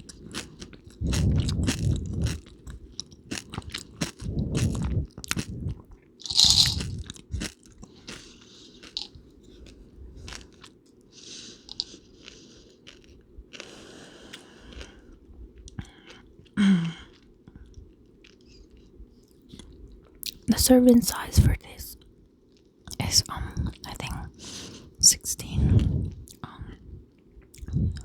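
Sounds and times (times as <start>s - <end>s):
crunching and chewing candy: 0.0s - 20.5s, 25.8s - 28.0s.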